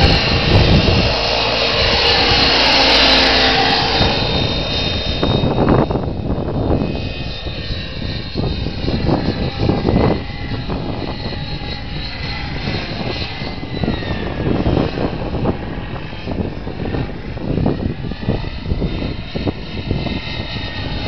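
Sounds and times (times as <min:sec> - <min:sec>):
model helicopter turbine whine: 0:00.0 - 0:21.0.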